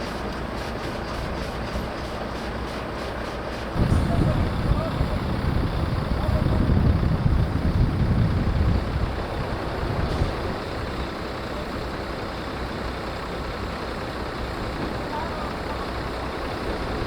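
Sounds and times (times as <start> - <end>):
heavy truck engine rumble: 0.0 - 17.0.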